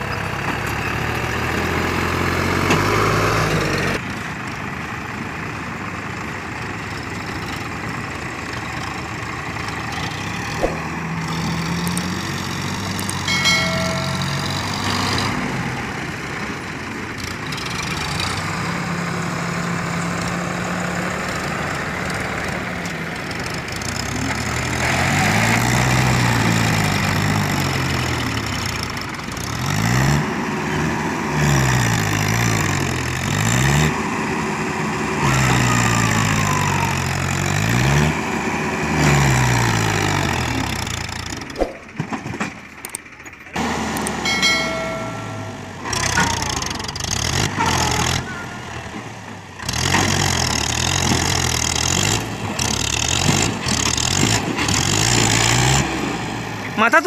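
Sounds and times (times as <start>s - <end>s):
diesel engines straining: 0.0s - 57.0s.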